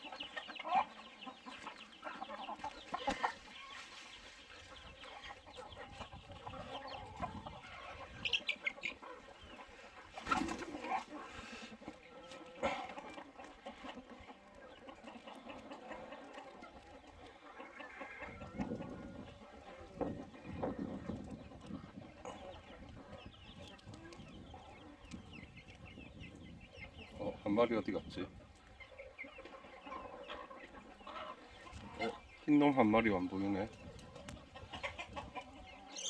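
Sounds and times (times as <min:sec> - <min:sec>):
young chickens clucking: 0:00.0 - 0:36.0.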